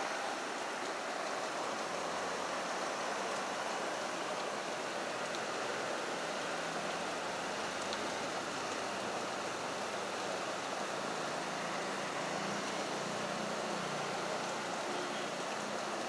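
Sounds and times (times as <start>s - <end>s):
heavy rain on a road: 0.0s - 16.0s.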